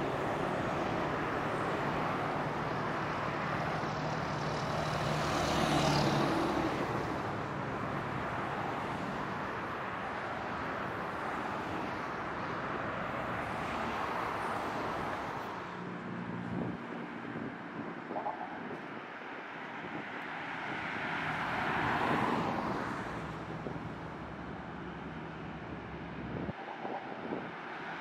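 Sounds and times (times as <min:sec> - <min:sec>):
highway traffic rush: 0:00.0 - 0:28.0.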